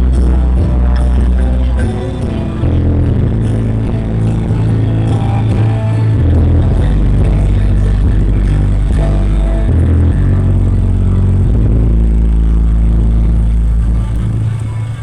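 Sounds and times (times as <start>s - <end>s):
loud music with heavy bass: 0.0s - 15.0s.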